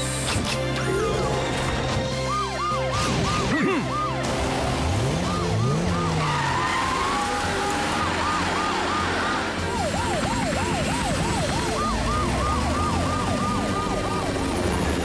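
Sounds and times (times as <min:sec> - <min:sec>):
cartoon police siren yelping: 0:02.3 - 0:15.0
car engine revving: 0:02.9 - 0:15.0.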